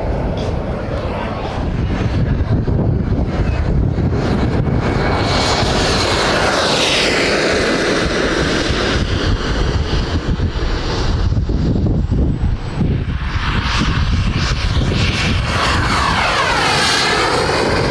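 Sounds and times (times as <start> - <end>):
jet turbine engine whining: 0.0 - 17.9
wind buffeting microphone: 0.0 - 17.9.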